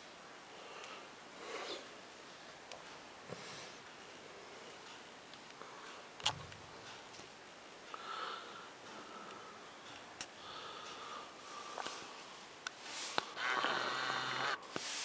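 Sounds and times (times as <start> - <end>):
faint thin steady sound: 0.0 - 15.0.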